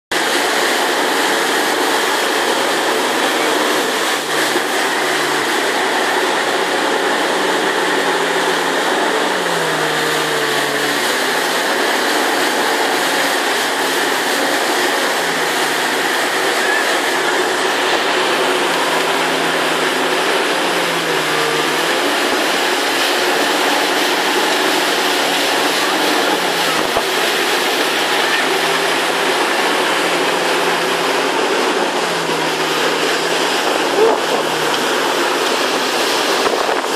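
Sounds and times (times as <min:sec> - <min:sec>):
churned water rushing: 0:00.1 - 0:36.9
motorboat engine running: 0:00.1 - 0:36.9
wind: 0:00.1 - 0:36.9.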